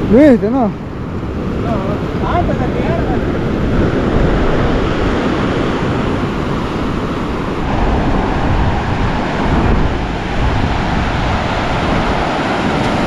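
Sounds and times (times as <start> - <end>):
ocean surf breaking: 0.0 - 13.0
wind rumbling on microphone: 0.0 - 13.0.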